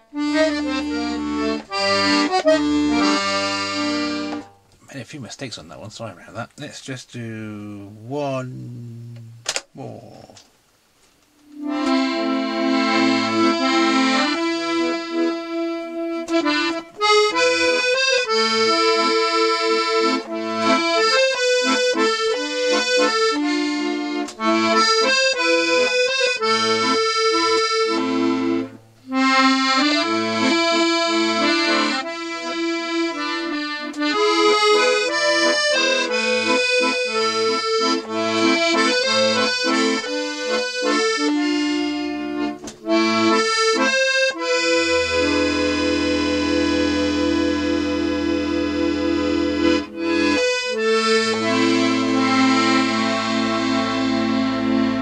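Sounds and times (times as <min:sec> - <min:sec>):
accordion playing a tune: 0:00.0 - 0:04.6, 0:11.4 - 0:55.0.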